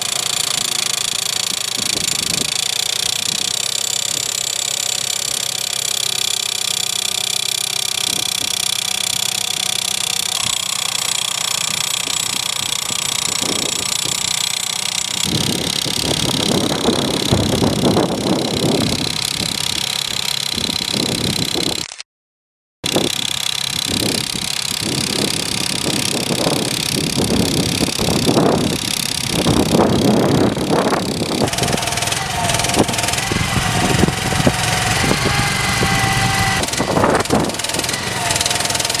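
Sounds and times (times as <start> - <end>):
probe driven into soil: 0.0 - 22.0, 22.8 - 39.0
small engine running: 0.0 - 22.0, 22.8 - 39.0.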